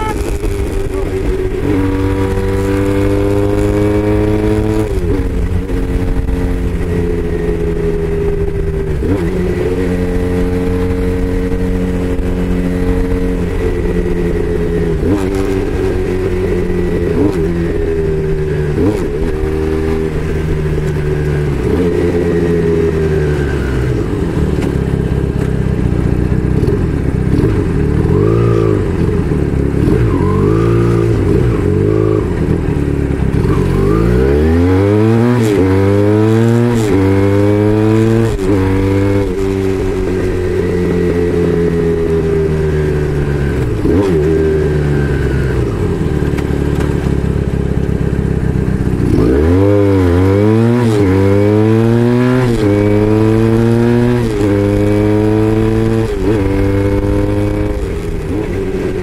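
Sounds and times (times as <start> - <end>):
motorbike engine accelerating: 0.0 - 59.0
wind and road noise: 0.0 - 59.0.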